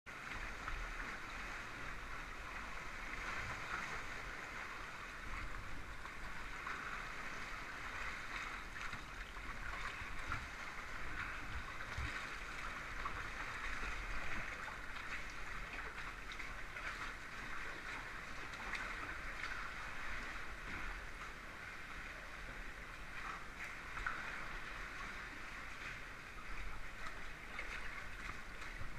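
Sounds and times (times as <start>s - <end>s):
water sloshing around kayak: 0.1s - 28.9s.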